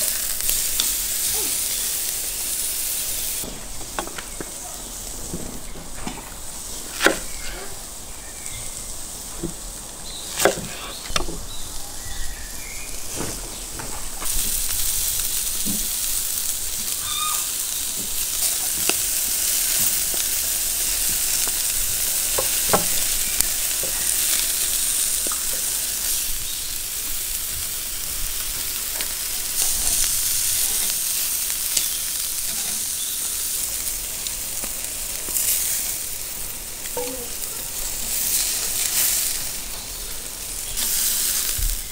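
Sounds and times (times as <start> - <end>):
meat sizzling: 0.0 - 41.9.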